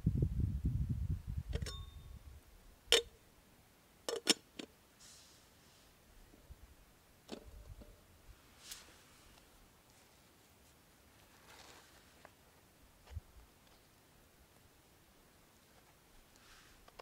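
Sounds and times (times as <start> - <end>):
soft hiss: 0.0 - 17.0.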